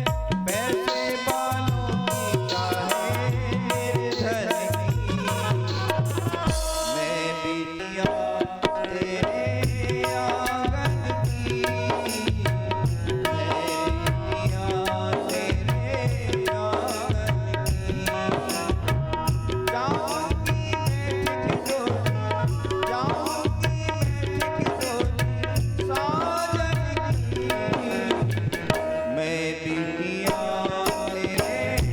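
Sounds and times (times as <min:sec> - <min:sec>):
tabla and drum rhythm: 0:00.0 - 0:31.9.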